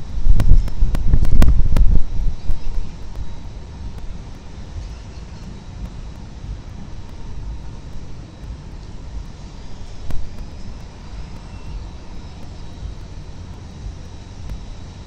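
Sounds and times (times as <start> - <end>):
city background noise: 0.0 - 15.0
wind rumble: 0.0 - 15.0.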